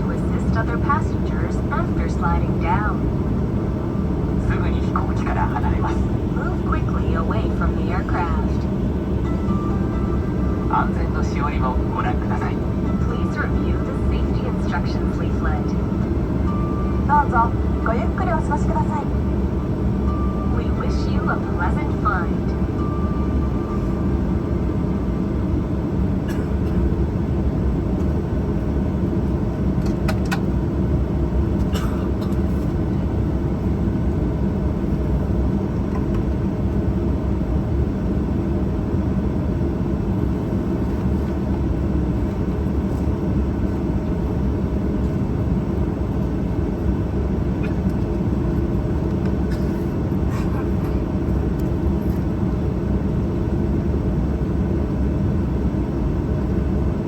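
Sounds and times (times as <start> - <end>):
airplane cabin hum and rush: 0.0 - 57.0.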